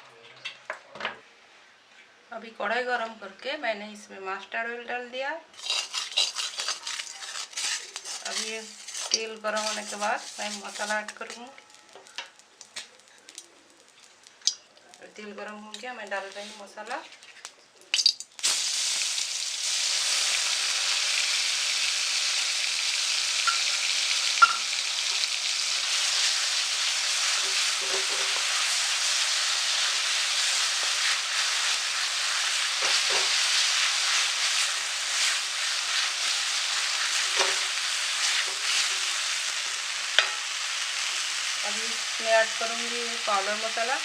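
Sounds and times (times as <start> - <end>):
paste sizzling in hot oil: 5.5 - 14.7, 18.0 - 44.0.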